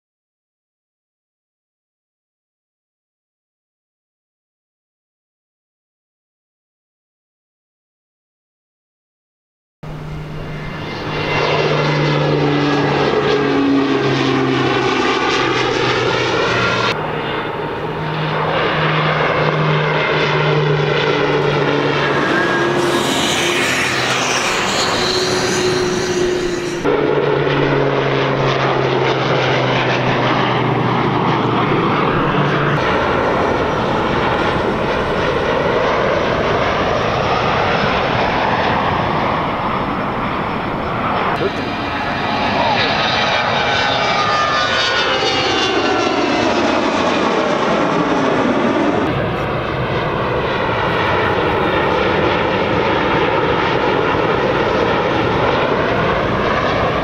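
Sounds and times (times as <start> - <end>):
low-flying aircraft engines droning: 9.8 - 57.0.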